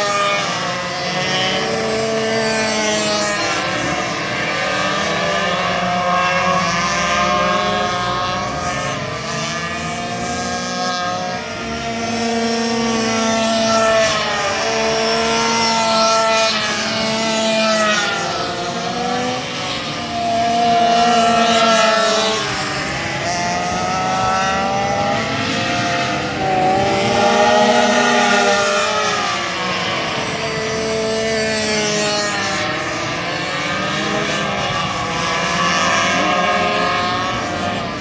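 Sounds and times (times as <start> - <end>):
racing minibike engines revving: 0.0 - 38.0.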